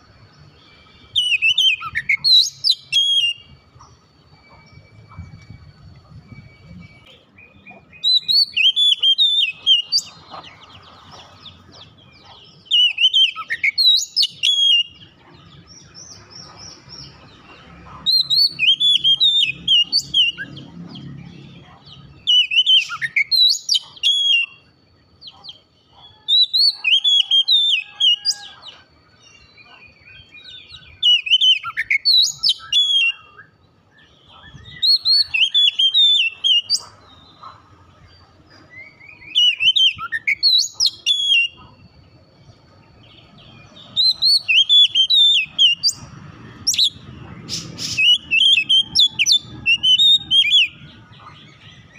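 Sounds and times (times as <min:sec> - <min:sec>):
bird singing whistles and chatter: 0:00.5 - 0:24.7, 0:29.4 - 0:37.6, 0:38.2 - 0:41.8, 0:43.7 - 0:51.9.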